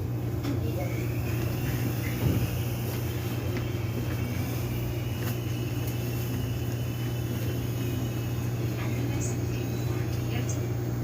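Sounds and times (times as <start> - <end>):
subway train hum: 0.0 - 11.0.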